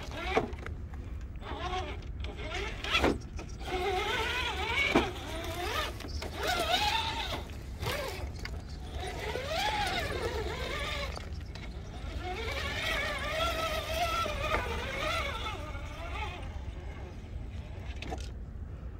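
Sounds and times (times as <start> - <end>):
rc car motor whining: 0.0 - 18.3.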